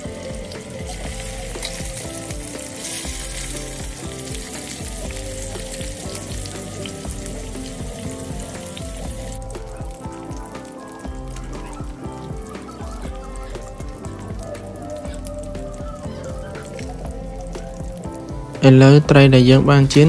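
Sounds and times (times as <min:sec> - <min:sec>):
background music: 0:00.0 - 0:20.0
fish sizzling in hot oil: 0:00.0 - 0:20.0.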